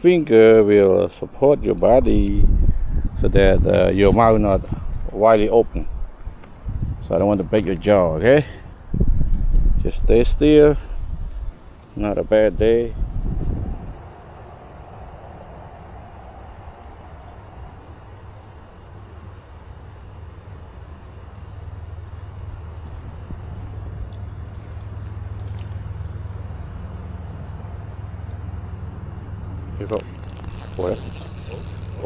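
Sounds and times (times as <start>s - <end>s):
insects chirping: 0.0s - 32.0s
low outdoor rumble: 0.0s - 32.0s.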